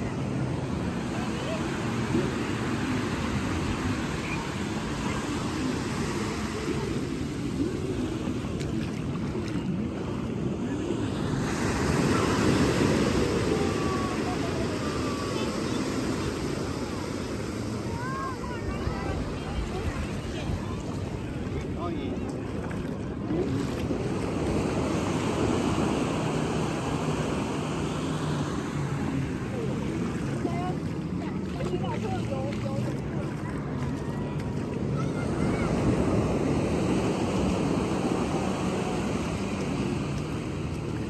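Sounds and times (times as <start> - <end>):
faint distant voices: 0.0 - 41.0
sea waves washing on beach: 0.0 - 41.0.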